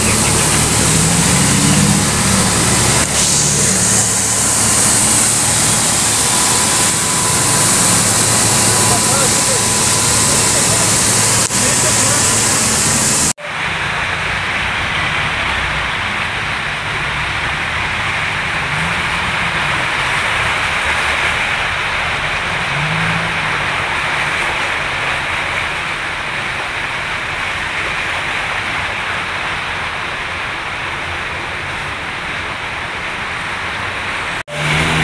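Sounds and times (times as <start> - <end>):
low engine rumble: 0.0 - 35.0
tyres splashing through water: 0.0 - 35.0
water jetting from a hose: 0.0 - 35.0.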